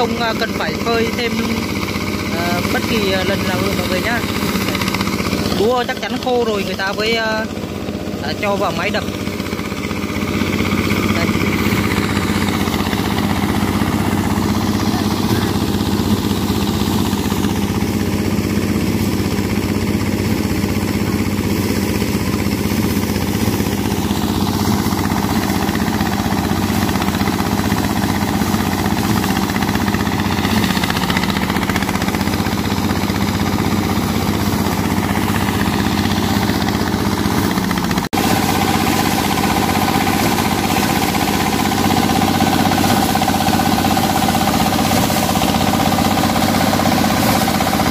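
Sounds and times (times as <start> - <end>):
diesel engine running: 0.0 - 47.9
threshing machine whir: 0.0 - 47.9.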